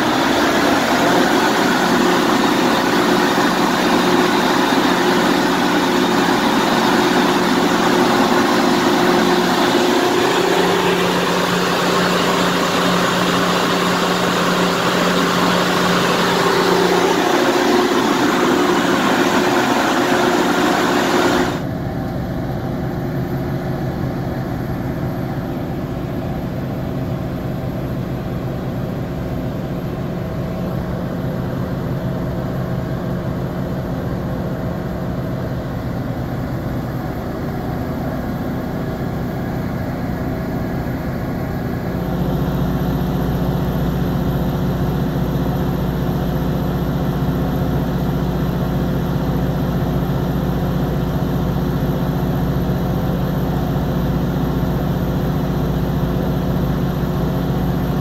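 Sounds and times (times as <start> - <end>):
diesel generator droning: 0.0 - 58.0.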